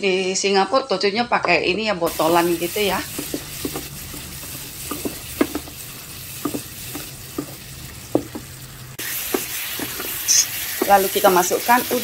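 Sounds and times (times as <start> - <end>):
food sizzling in hot oil: 2.1 - 12.0
wooden spatula scraping a pan: 2.1 - 12.0.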